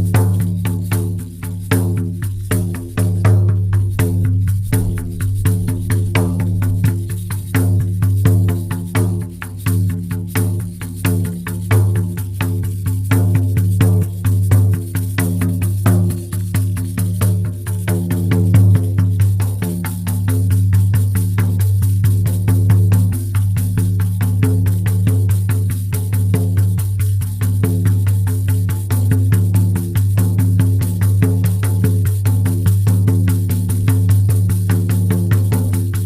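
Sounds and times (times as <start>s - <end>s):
frame drum beating: 0.0s - 36.0s.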